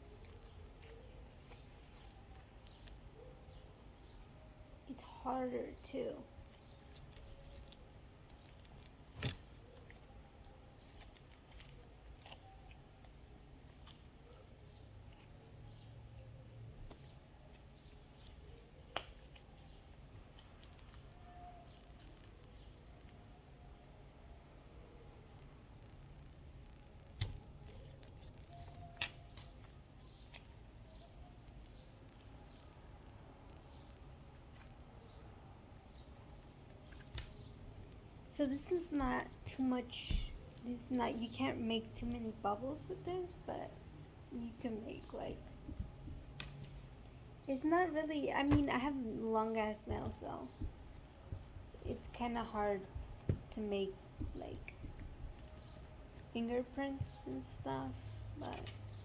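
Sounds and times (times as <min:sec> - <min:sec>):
slime crackle: 0:00.0 - 0:24.4, 0:25.2 - 0:59.0.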